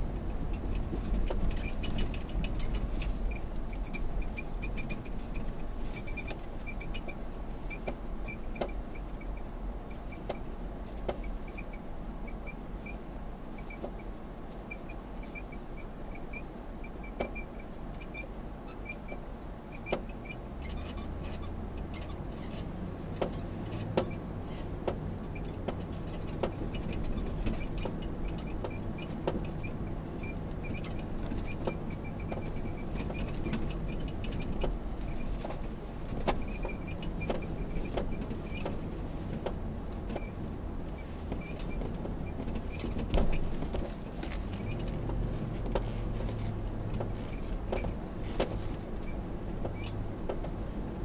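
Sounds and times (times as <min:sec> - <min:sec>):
engine and road rumble: 0:00.0 - 0:51.0
steady low hum: 0:00.0 - 0:51.0
small clicks and rattles: 0:00.2 - 0:13.0, 0:19.8 - 0:51.0.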